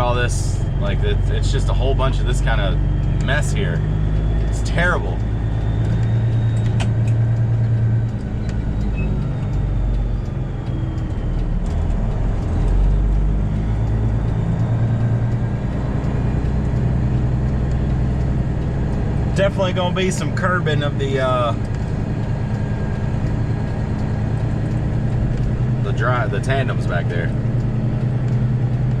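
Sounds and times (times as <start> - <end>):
truck diesel engine humming: 0.0 - 29.0.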